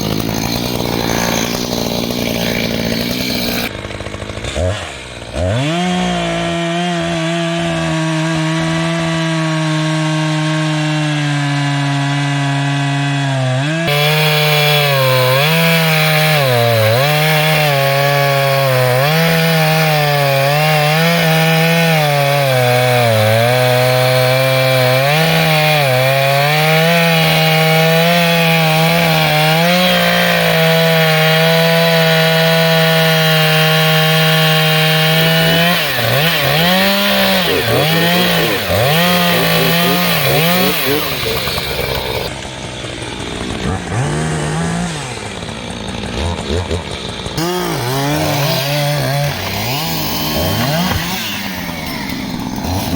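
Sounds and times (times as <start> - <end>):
reciprocating saw cutting log: 0.0 - 52.9.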